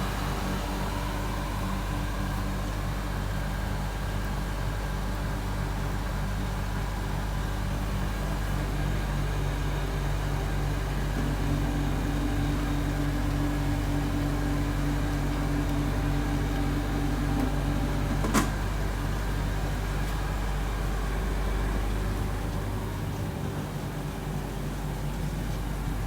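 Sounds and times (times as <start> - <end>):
filter machine blower humming: 0.0 - 26.0.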